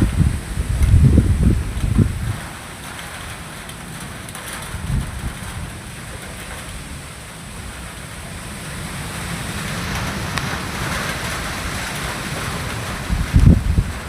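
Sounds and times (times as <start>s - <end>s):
rain: 0.0s - 14.0s
wind buffeting microphone: 0.0s - 14.0s.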